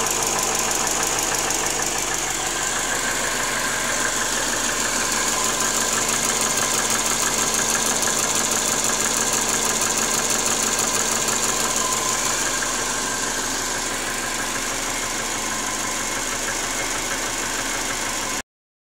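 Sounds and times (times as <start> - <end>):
car engine idling with knock: 0.0 - 18.4.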